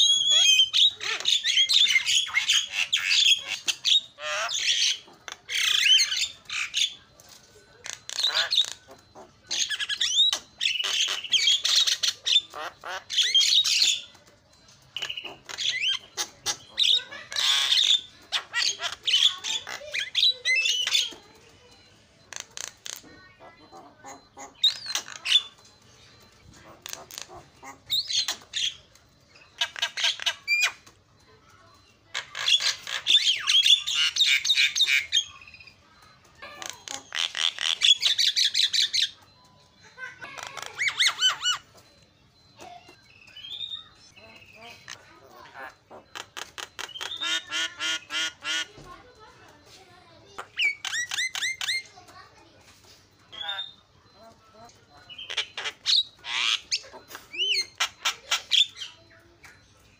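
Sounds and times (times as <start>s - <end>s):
myna bird chattering and whistling: 0.0s - 59.9s.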